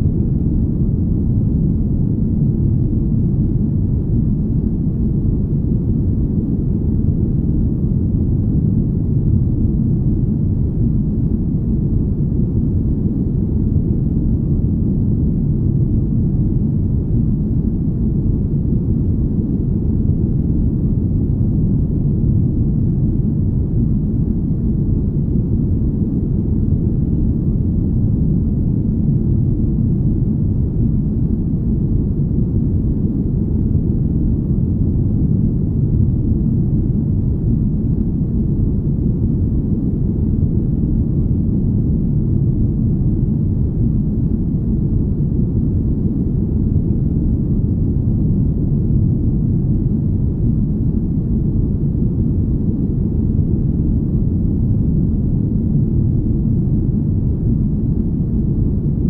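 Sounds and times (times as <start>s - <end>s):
deep smooth rumble: 0.0s - 59.0s.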